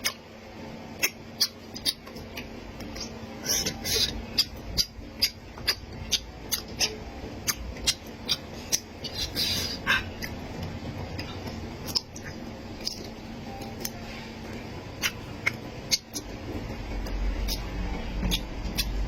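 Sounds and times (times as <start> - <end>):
chewing and lip-smacking: 0.9 - 19.0.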